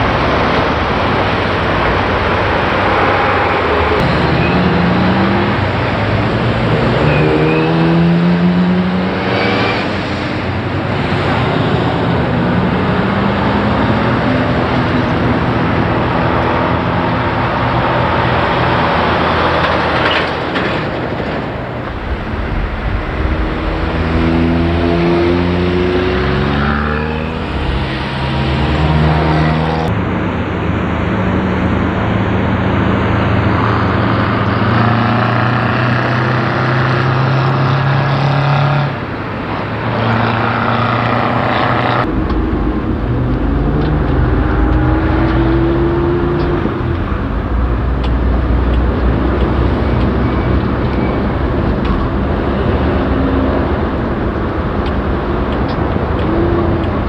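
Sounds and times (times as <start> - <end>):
truck engines revving through gears: 0.0 - 30.0, 31.0 - 57.0
cars passing: 0.0 - 57.0.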